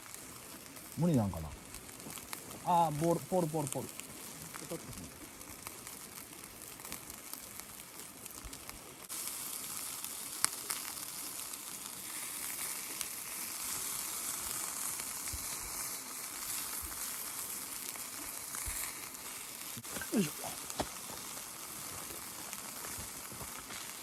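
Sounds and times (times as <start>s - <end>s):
skewers sizzling on a grill: 0.0s - 24.0s.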